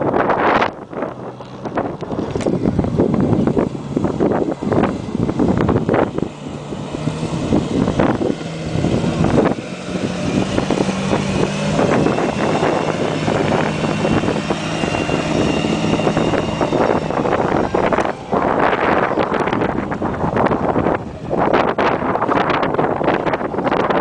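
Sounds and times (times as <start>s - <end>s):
engine running under load: 0.0s - 24.0s
wind buffeting microphone: 0.0s - 24.0s.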